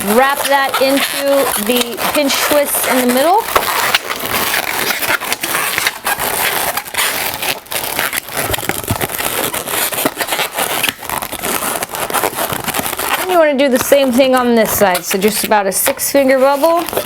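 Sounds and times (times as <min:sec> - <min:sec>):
balloons squeaking and rubbing: 0:00.0 - 0:17.0.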